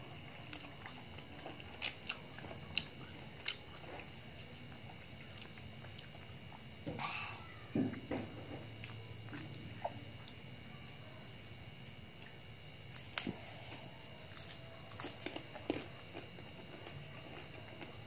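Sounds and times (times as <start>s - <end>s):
crunchy chewing: 0.0s - 18.0s.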